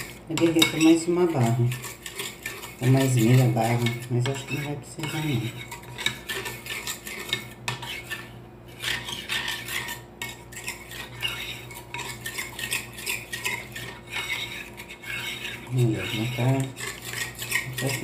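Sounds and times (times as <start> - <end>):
metal spoon stirring in ceramic bowl: 0.0 - 18.0.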